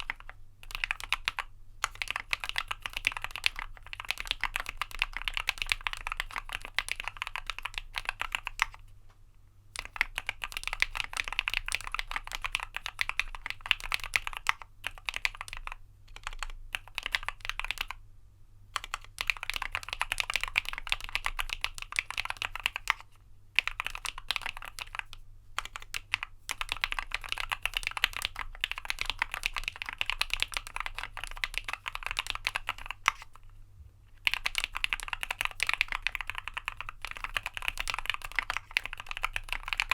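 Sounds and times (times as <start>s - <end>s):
fast mechanical keyboard typing: 0.0s - 8.8s, 9.8s - 18.0s, 18.8s - 23.0s, 23.6s - 33.3s, 34.2s - 39.9s.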